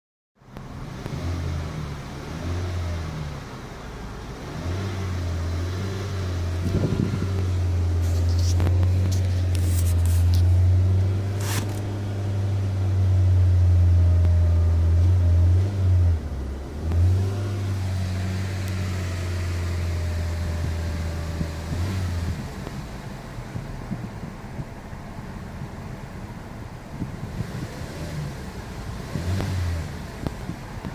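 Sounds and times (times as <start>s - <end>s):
car engine droning: 0.4s - 30.9s.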